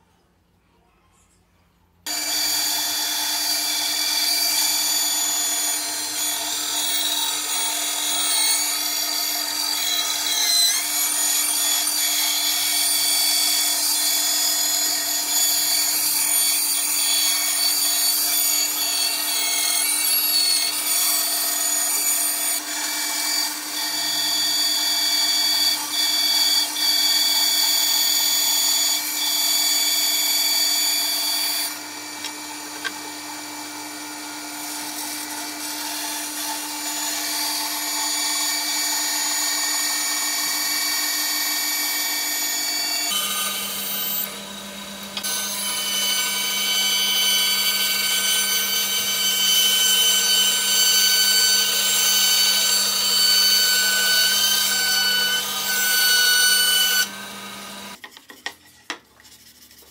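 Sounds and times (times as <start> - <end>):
bandsaw cutting wood: 2.1 - 58.0.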